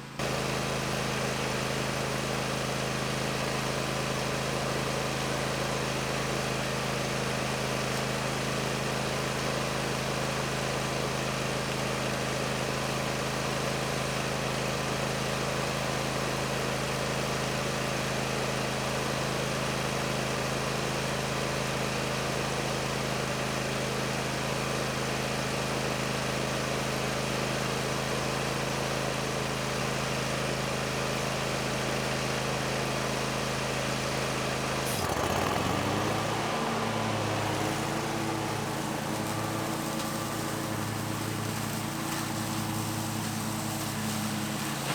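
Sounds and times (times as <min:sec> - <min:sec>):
mower engine running steadily: 0:00.0 - 0:44.9.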